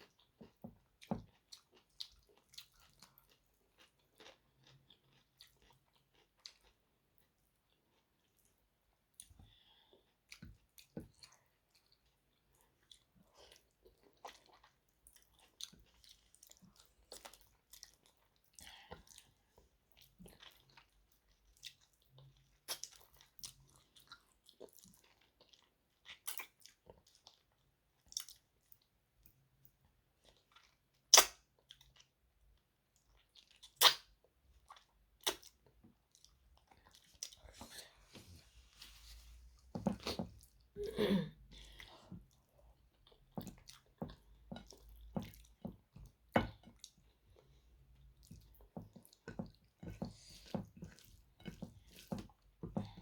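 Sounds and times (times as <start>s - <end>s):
chewing with wet mouth noises: 0.0s - 38.9s, 39.5s - 53.0s.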